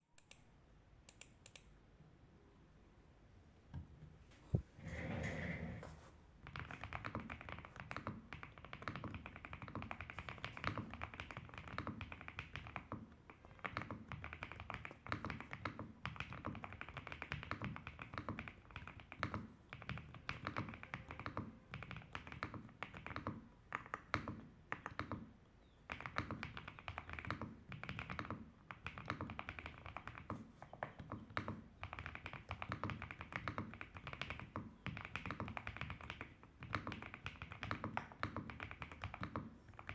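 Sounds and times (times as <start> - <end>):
mechanical keyboard typing: 6.4 - 39.9.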